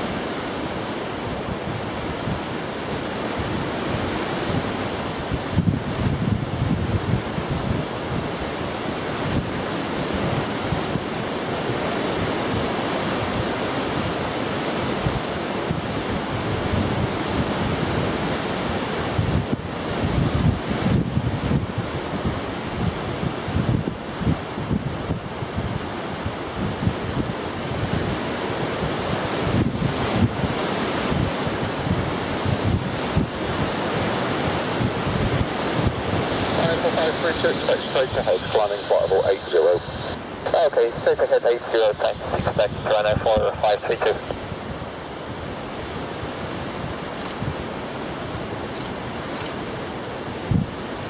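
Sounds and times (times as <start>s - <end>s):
strong wind on microphone: 0.0s - 51.0s.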